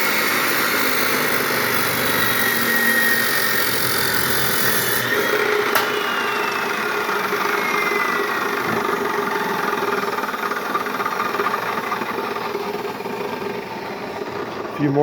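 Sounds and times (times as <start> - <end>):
chop saw motor whine: 0.0 - 15.0.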